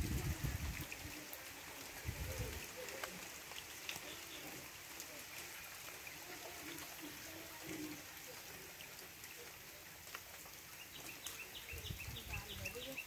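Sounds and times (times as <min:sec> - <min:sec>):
light rain pattering: 0:00.0 - 0:13.0
drips ticking: 0:00.6 - 0:13.0.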